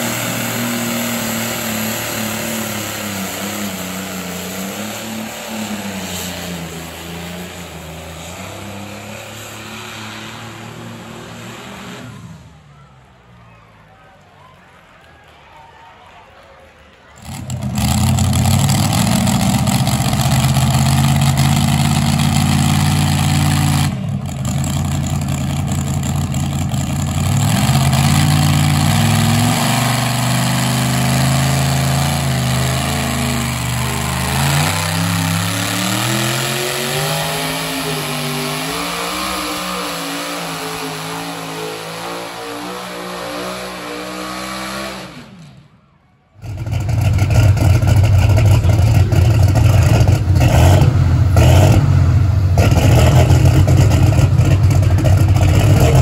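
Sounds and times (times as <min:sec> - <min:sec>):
pulling tractor engine revving: 0:00.0 - 0:12.6, 0:17.2 - 0:45.7, 0:46.4 - 0:56.0
second loud engine: 0:00.0 - 0:56.0.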